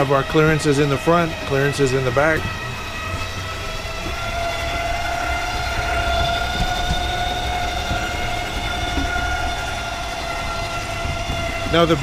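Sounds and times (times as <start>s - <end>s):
electric motor whining: 0.0s - 12.0s
low rumble: 0.0s - 12.0s.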